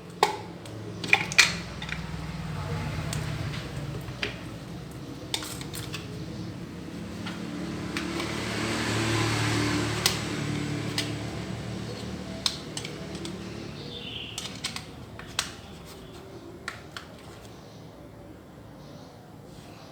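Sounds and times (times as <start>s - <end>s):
small objects clicking and tapping: 0.0s - 2.4s, 3.0s - 17.6s.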